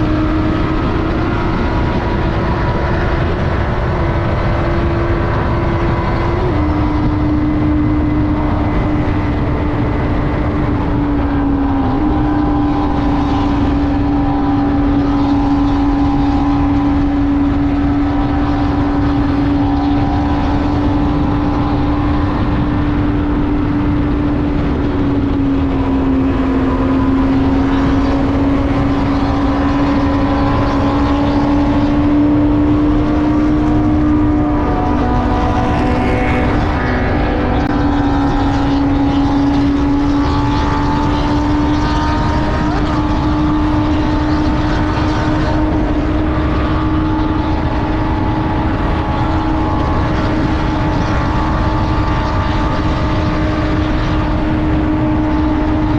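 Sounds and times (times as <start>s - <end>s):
motorcycle engine cruising: 0.0s - 55.9s
road rumble: 0.0s - 55.9s
wind noise: 0.0s - 55.9s.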